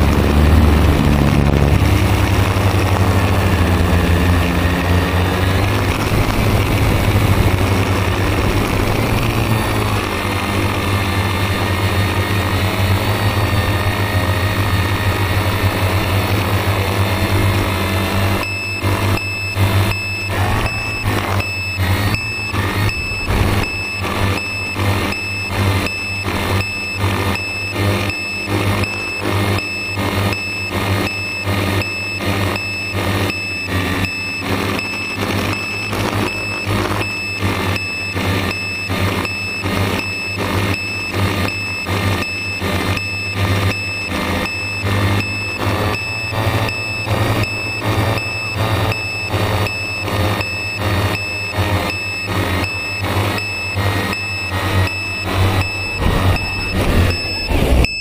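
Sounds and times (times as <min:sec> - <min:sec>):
drone propellers humming: 0:00.0 - 0:58.0
electronic beeping: 0:00.0 - 0:58.0.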